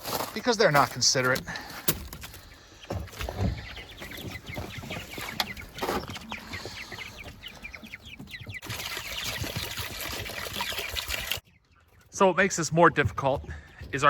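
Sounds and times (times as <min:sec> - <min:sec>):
chickens clucking: 0:00.4 - 0:14.0.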